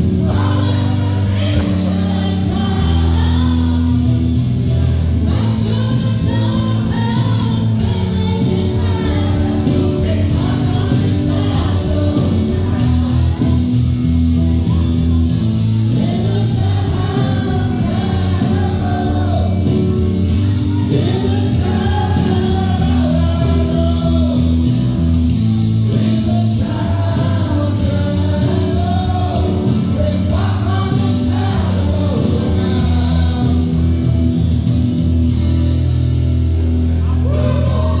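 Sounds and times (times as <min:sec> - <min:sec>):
person singing into microphone: 0:00.0 - 0:04.4, 0:05.2 - 0:14.0, 0:14.6 - 0:24.7, 0:25.5 - 0:34.1
loud backing track: 0:00.0 - 0:38.0.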